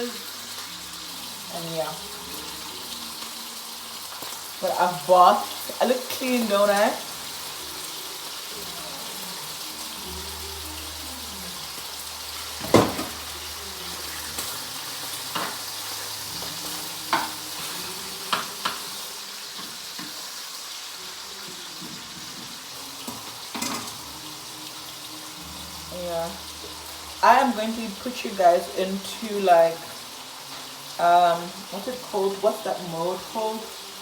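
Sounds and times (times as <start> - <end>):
bacon sizzling in a pan: 0.0 - 34.0.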